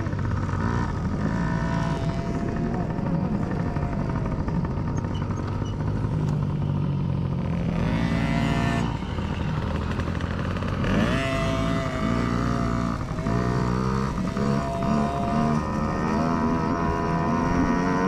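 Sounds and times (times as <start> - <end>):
small dirt bike engines running: 0.0 - 18.0.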